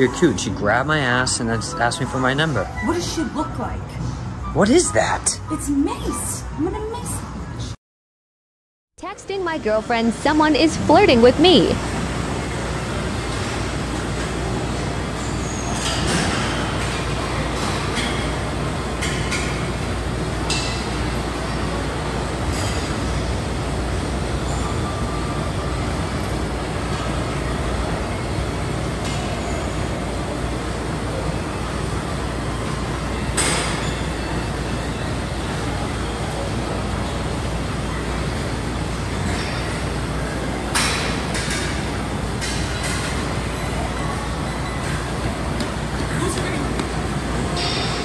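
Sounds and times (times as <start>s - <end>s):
gym background noise: 0.0s - 7.8s, 9.0s - 48.0s.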